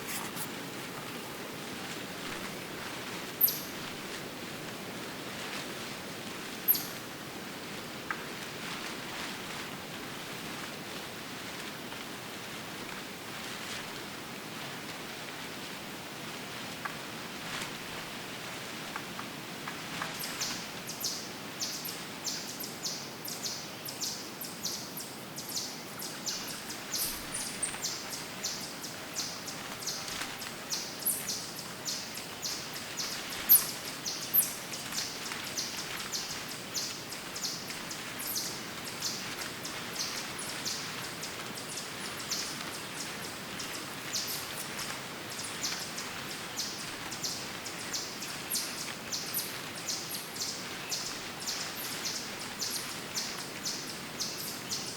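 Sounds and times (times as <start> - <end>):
forest ambience hiss: 0.0 - 54.9.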